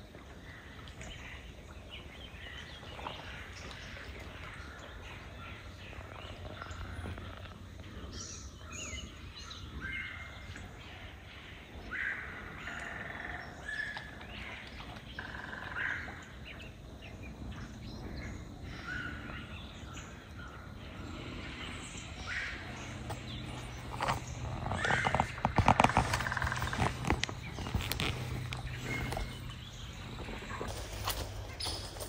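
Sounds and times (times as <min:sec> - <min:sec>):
low steady rumble: 0:00.0 - 0:32.0
birds chirping and calling: 0:00.4 - 0:32.0.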